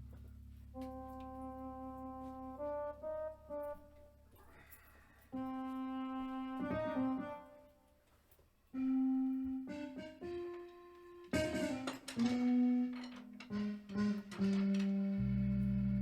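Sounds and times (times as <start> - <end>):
organ-like keyboard chords: 0.0 - 4.3, 5.4 - 7.6, 8.7 - 16.0.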